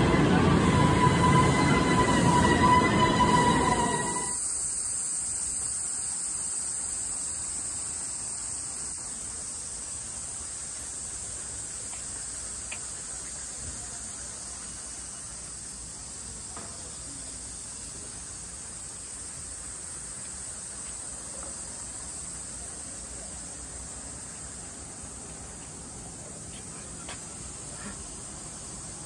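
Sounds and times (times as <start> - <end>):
high-pitched hiss: 0.0 - 29.0.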